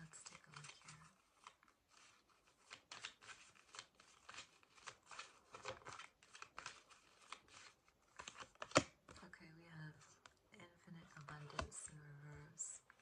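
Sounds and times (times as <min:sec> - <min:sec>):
cards shuffled by hand: 0:00.0 - 0:09.2, 0:11.2 - 0:13.0.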